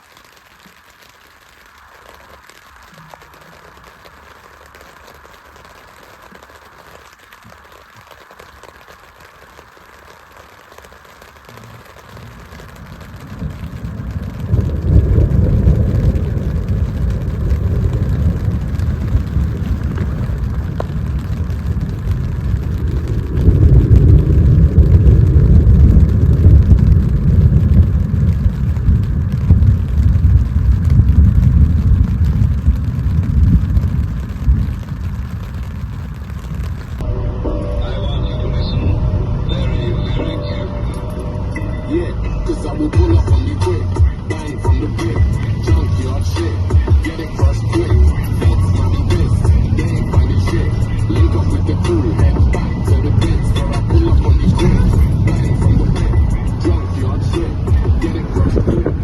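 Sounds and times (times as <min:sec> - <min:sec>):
rain hiss: 0:00.0 - 0:59.0
deep thunder rumble: 0:11.5 - 0:59.0.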